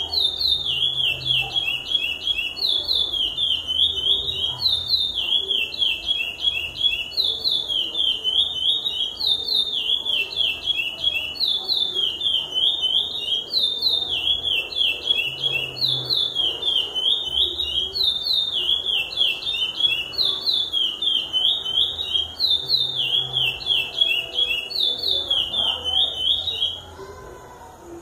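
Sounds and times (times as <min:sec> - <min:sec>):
finch singing whistled notes: 0:00.0 - 0:27.0.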